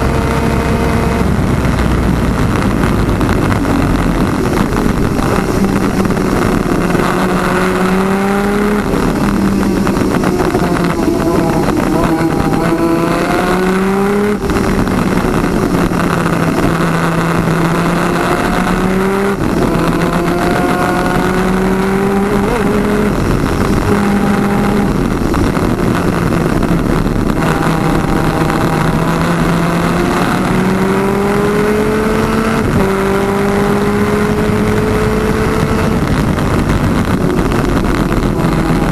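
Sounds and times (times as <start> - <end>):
two-stroke kart engine at full throttle: 0.0 - 38.9
wind noise: 0.0 - 38.9.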